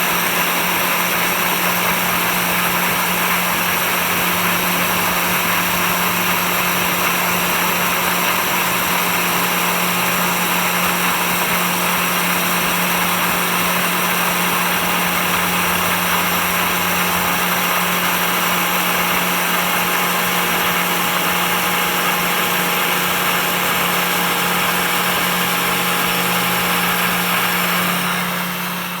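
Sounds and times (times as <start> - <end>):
router machine drone: 0.0 - 29.0.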